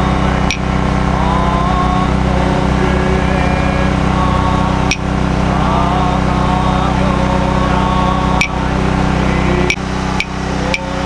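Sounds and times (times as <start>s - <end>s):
faint voices: 0.0s - 11.0s
steady engine hum: 0.0s - 11.0s.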